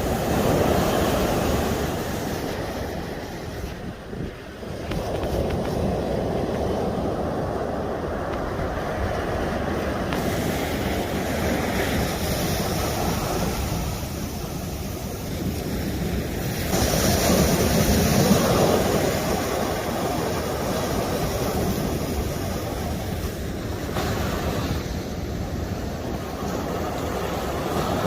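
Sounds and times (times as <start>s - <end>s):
sea waves washing on rocks: 0.0s - 28.0s
wind buffeting microphone: 0.0s - 28.0s.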